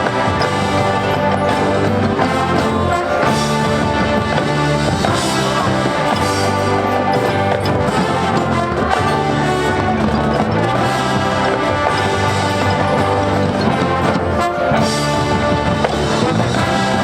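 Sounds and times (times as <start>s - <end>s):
drums: 0.0s - 17.0s
marching band brass playing: 0.0s - 17.0s.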